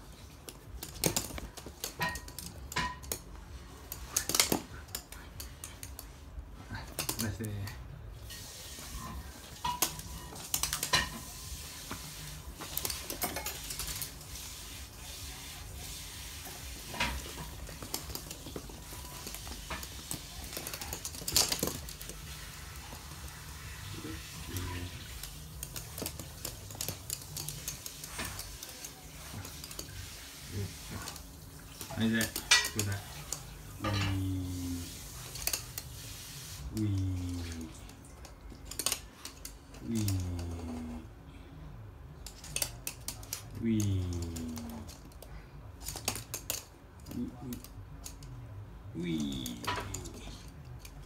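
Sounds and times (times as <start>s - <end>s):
dog claws clicking on hard floor: 0.1s - 6.2s, 8.9s - 40.8s, 42.2s - 48.4s.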